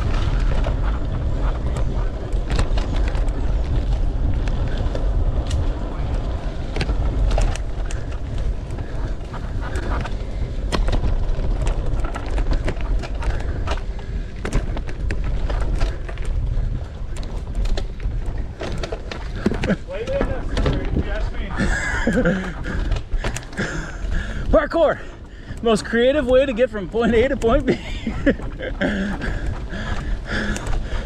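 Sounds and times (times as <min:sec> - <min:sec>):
bike rattles and clicks: 0:00.0 - 0:31.0
bike tyre noise: 0:00.0 - 0:31.0
wind rumbling on microphone: 0:00.0 - 0:31.0.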